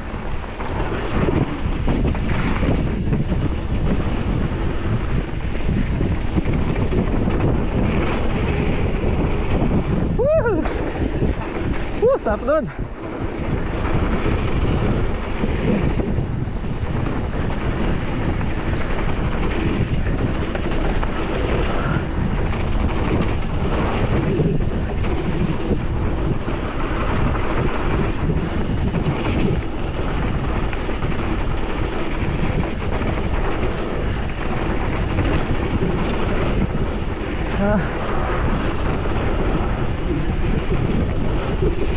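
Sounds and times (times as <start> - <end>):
bike tyres rolling over dirt: 0.0 - 41.9
wind buffeting microphone: 0.0 - 41.9.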